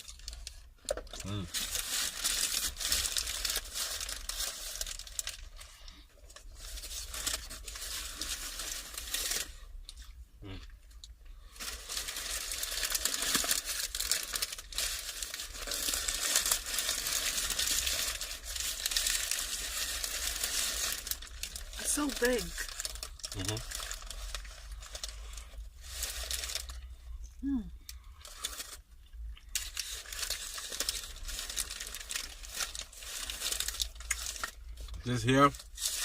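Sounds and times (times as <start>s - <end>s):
food wrapping crinkling: 0.0s - 10.2s, 10.9s - 26.9s, 27.8s - 36.0s.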